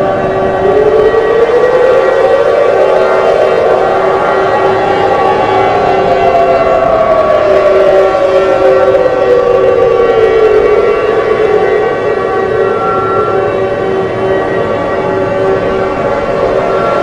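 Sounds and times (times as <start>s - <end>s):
horn-like chord tones: 0.0s - 17.0s
wailing siren tone: 0.0s - 17.0s.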